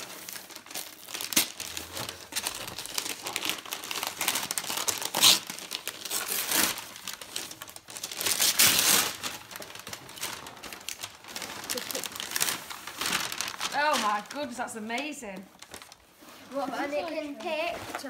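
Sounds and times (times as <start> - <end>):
wrapping paper rustling and tearing: 0.0 - 18.0.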